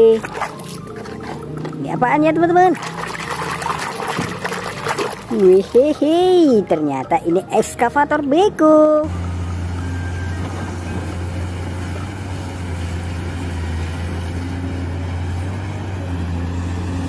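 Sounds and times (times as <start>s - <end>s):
excavator diesel engine droning: 0.0s - 17.0s.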